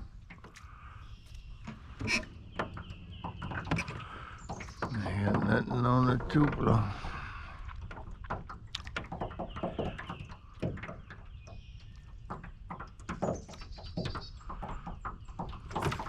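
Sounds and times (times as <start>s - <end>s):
light clicks and knocks: 0.0s - 16.0s.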